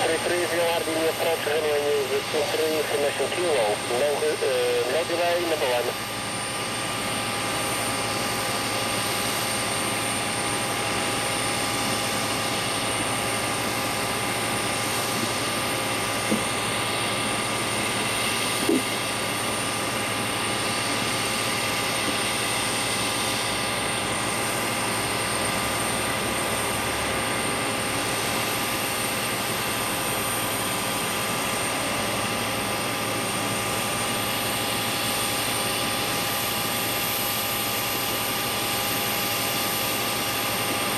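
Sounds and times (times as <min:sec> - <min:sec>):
jet turbine whine and roar: 0:00.0 - 0:40.9.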